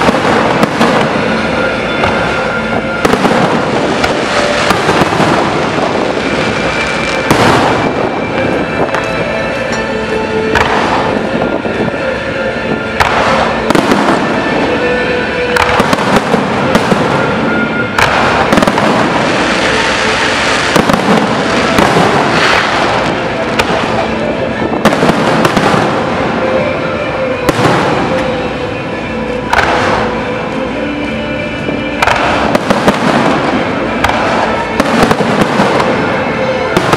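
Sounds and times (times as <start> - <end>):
fireworks crackling: 0.0 - 36.9.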